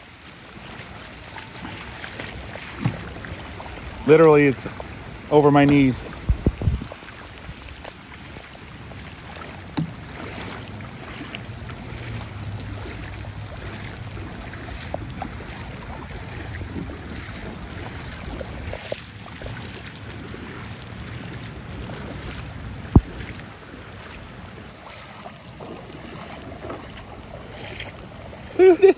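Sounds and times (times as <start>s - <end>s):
paddle strokes splashing: 0.0s - 28.9s
small splashes and drips: 0.0s - 28.9s
wind rumble on microphone: 0.0s - 28.9s.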